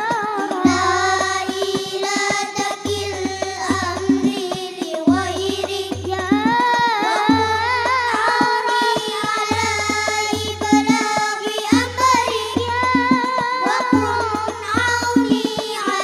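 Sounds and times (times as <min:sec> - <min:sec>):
children singing devotional melody: 0:00.0 - 0:16.0.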